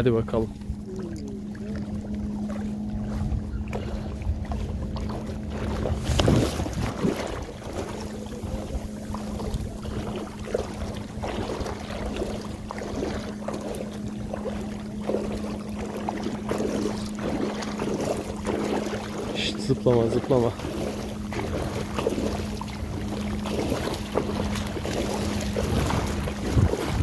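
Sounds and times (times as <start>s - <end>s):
low hum: 0.0s - 27.0s
wind rumbling on microphone: 0.0s - 27.0s
fish splashing in water: 0.8s - 27.0s.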